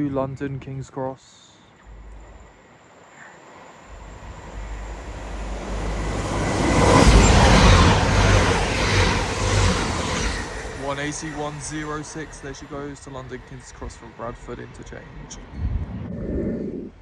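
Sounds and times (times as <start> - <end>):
train passing with wheel noise: 1.8 - 16.0.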